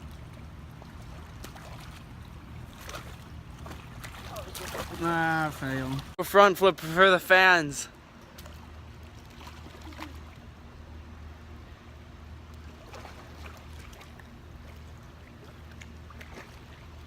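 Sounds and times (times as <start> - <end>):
faint moving water: 0.0 - 17.0
steady low hum: 0.0 - 17.0.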